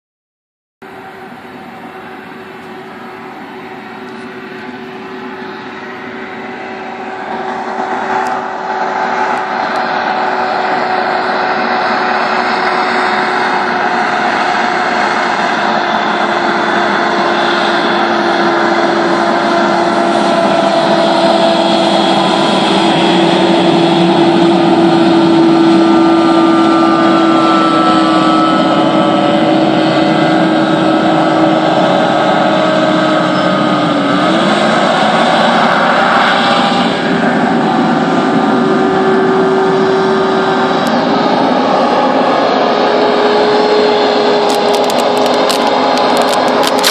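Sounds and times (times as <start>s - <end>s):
hovercraft engine droning: 0.8s - 46.9s.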